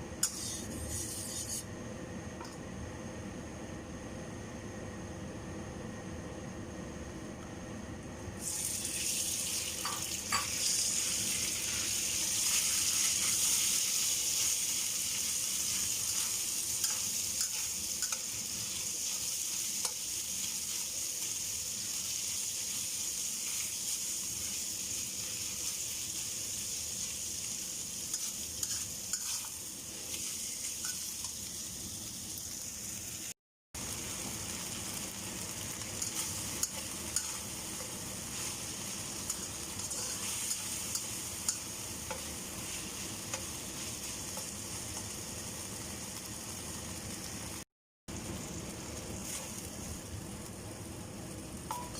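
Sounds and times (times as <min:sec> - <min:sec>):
noodles sizzling in a pan: 0:08.4 - 0:51.9.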